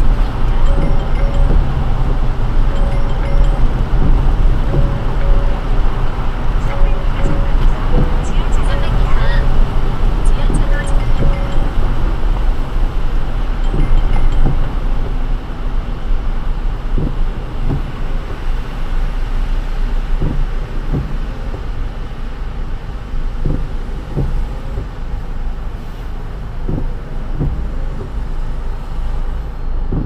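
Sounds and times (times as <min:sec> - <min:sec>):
rain hiss: 0:00.0 - 0:30.0
road and tyre rumble: 0:00.0 - 0:30.0
windscreen wiper strokes knocking: 0:00.0 - 0:30.0.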